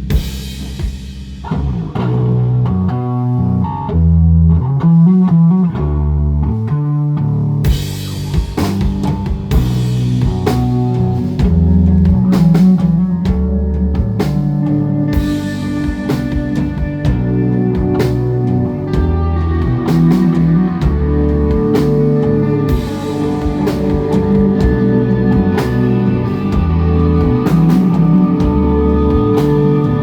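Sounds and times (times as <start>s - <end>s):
drum kit with cymbals: 0.0s - 3.5s, 7.4s - 30.0s
bass guitar: 0.0s - 30.0s
electric guitar: 1.4s - 30.0s.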